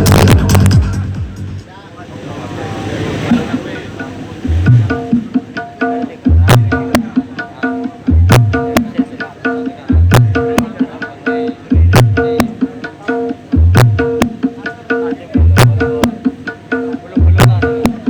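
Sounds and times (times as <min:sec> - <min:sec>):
percussion music over sound system: 0:00.0 - 0:18.0.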